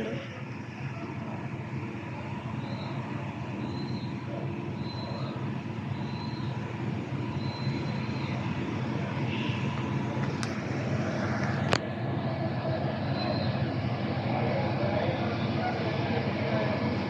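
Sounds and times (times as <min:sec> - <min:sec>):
large vehicle engine humming: 0:00.0 - 0:17.0.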